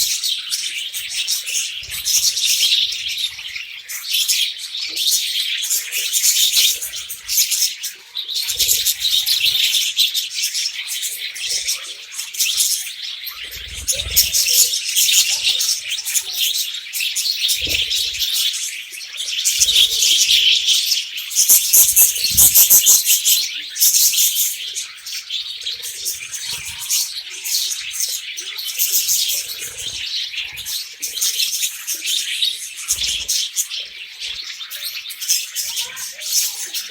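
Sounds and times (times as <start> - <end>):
parakeets chattering and warbling: 0.0 - 36.9.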